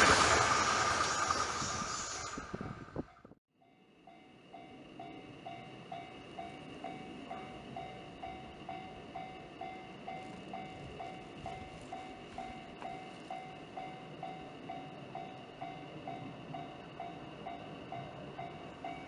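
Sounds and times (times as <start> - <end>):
faint train rumble: 0.0 - 19.0
level crossing warning bell: 3.6 - 19.0.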